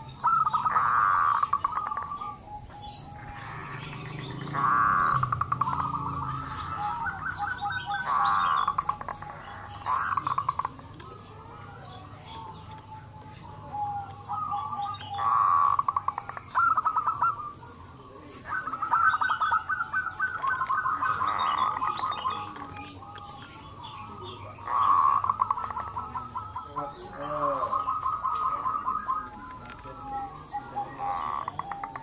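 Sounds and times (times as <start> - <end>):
doves cooing: 0.0 - 32.0.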